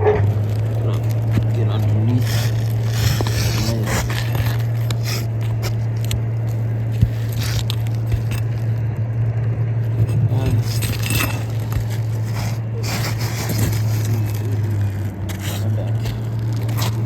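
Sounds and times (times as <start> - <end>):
pry bar scraping and clicking: 0.0 - 8.8, 9.9 - 17.0
asphalt shingles crackling: 0.2 - 9.1, 9.8 - 17.0.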